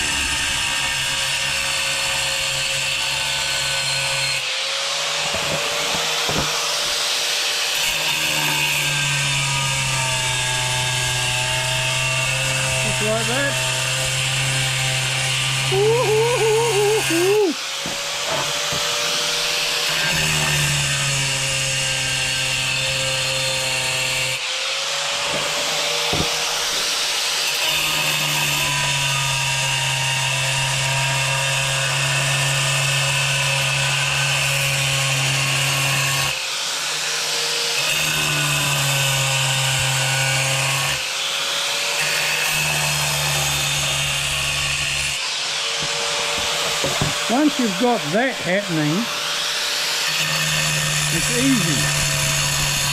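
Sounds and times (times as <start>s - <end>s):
angle grinder grinding tile: 0.0s - 52.9s.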